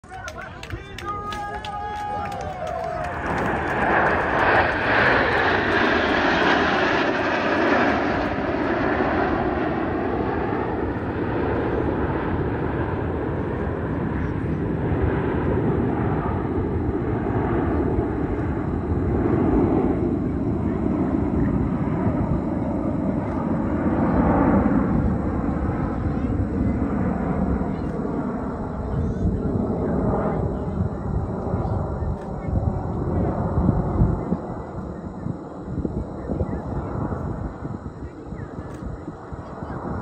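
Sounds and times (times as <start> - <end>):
jets flying overhead: 0.0 - 40.0.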